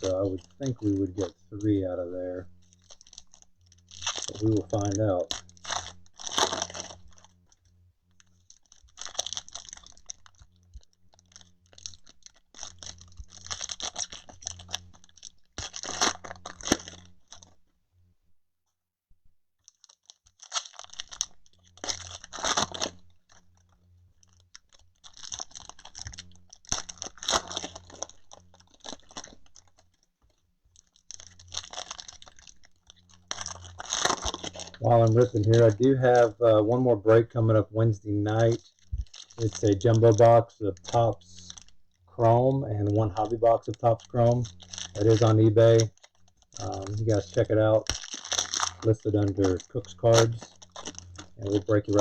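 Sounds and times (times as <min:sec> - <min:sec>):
foil packs tearing and crinkling: 0:00.0 - 0:07.6, 0:08.2 - 0:17.6, 0:19.6 - 0:52.0.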